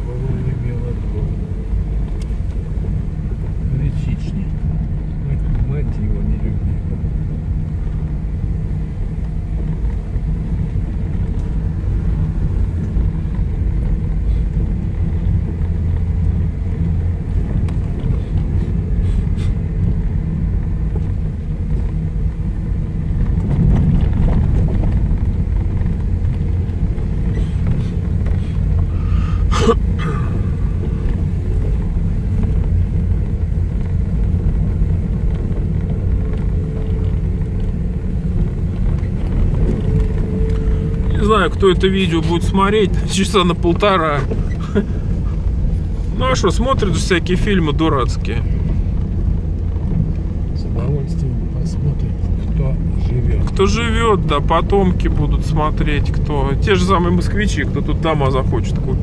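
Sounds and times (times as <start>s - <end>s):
car rumbling on dirt road: 0.0s - 59.0s.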